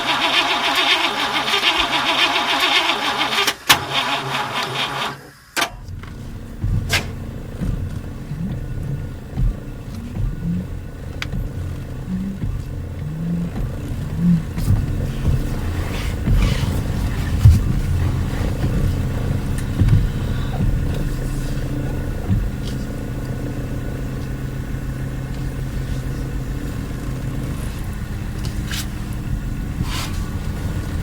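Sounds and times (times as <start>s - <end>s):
car engine idling: 0.0s - 5.1s, 5.8s - 31.0s.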